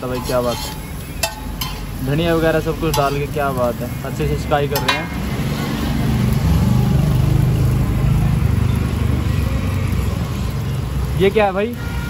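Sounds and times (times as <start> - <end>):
flatbread frying in butter: 0.0 - 12.0.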